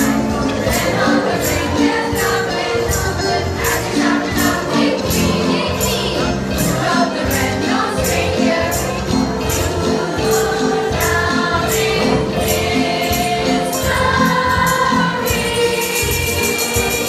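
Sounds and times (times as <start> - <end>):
children's choir singing a carol: 0.0 - 17.0
high percussion strokes: 0.0 - 17.0
music with steady beat: 0.0 - 17.0.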